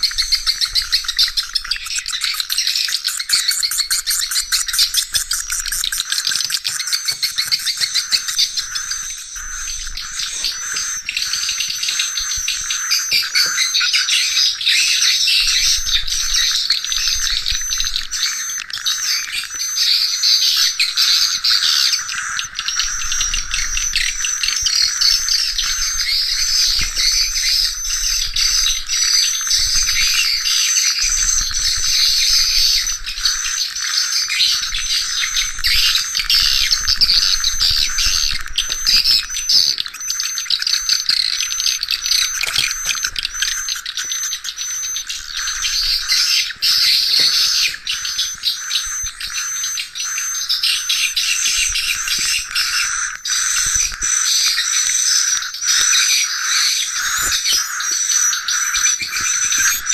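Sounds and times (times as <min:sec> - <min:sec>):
swiftlets twittering: 0:00.0 - 0:59.9.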